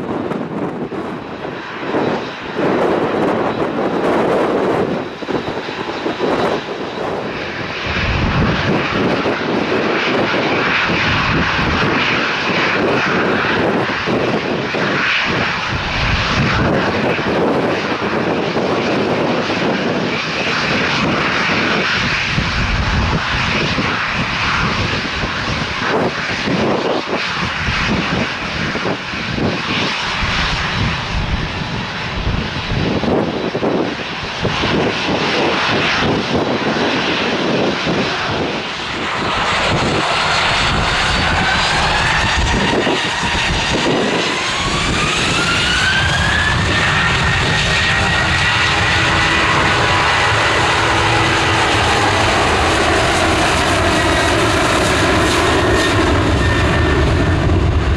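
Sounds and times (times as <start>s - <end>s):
jet engines roaring: 0.0s - 57.9s
wind buffeting microphone: 0.0s - 57.9s.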